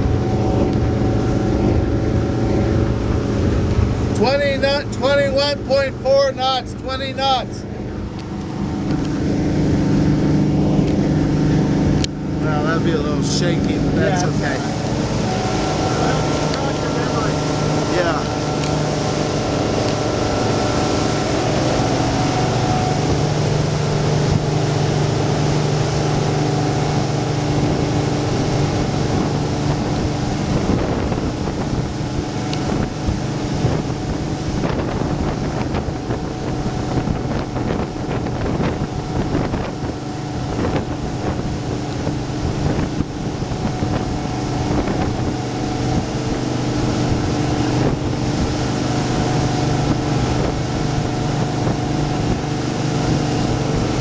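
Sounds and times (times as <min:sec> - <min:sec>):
boat engine drone: 0:00.0 - 0:54.0
water rushing in wake: 0:00.0 - 0:54.0
wind buffeting microphone: 0:00.0 - 0:54.0.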